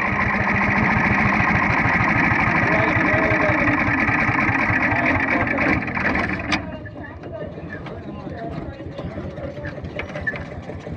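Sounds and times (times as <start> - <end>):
small engine running: 0.0 - 10.9.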